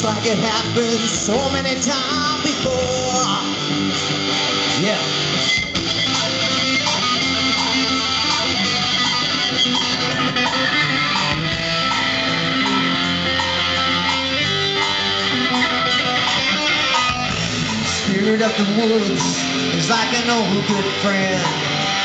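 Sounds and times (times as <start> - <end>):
bass guitar: 0.0 - 22.0
drum beat: 0.0 - 22.0
electric guitar: 0.0 - 22.0.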